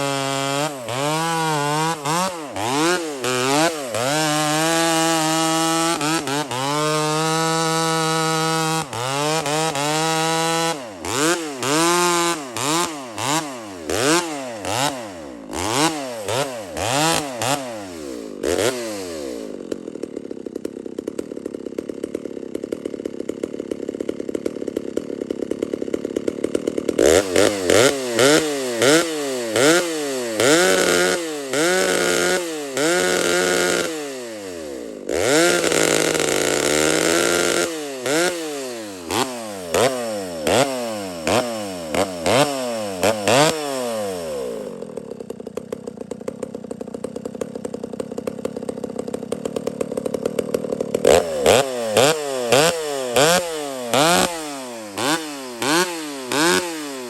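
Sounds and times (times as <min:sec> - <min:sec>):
chainsaw cutting wood: 0:00.0 - 0:57.0
chainsaw revving: 0:00.0 - 0:57.0.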